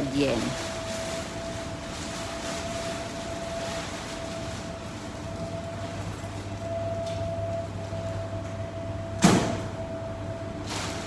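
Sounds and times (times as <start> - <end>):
laundromat machinery humming: 0.0 - 11.0.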